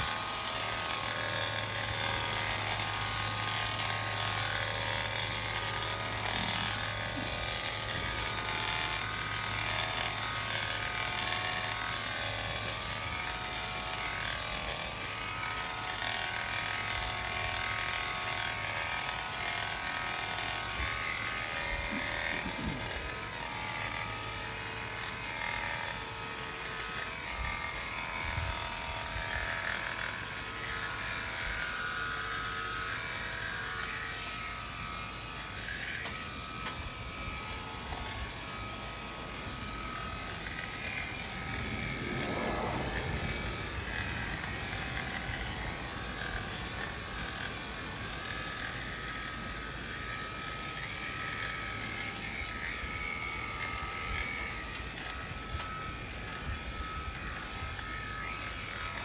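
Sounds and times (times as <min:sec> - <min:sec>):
electric shearing clippers running: 0:00.0 - 0:59.0.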